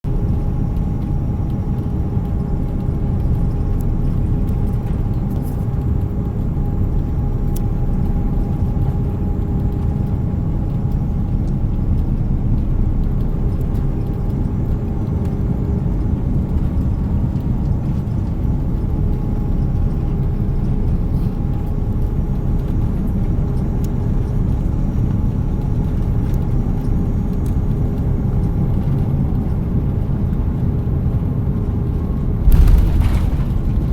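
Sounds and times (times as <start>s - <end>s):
airliner cabin rumble: 0.1s - 33.9s.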